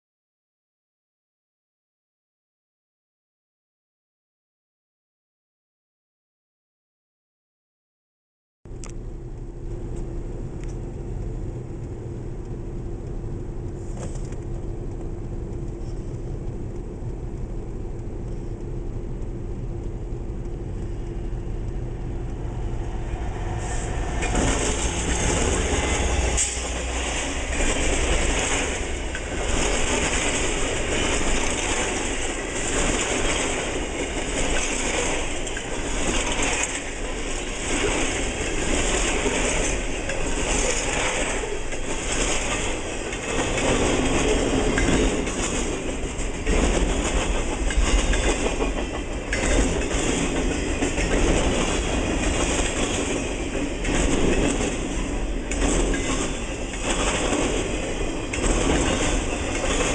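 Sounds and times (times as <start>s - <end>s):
freight train passing: 8.7s - 59.9s
wheels clattering on rails: 9.6s - 59.9s.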